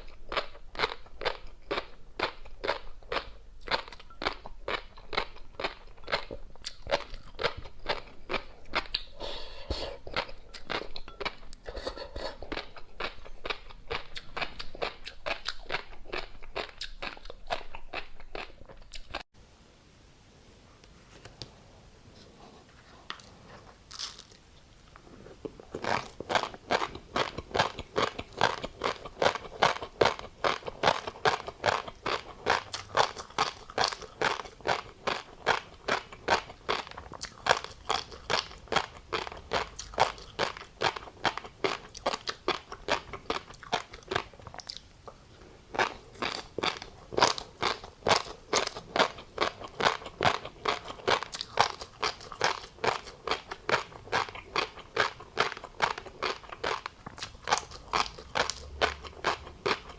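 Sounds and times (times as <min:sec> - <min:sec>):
chewing crunchy fish roe: 0:00.0 - 0:19.3, 0:23.1 - 0:59.9.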